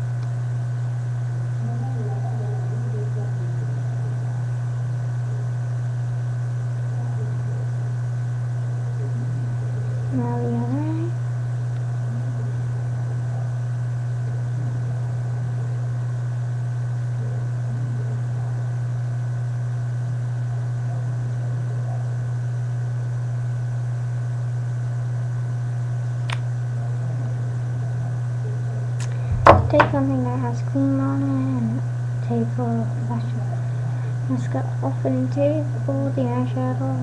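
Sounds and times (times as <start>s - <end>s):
steady low hum: 0.0s - 23.8s, 24.4s - 37.0s.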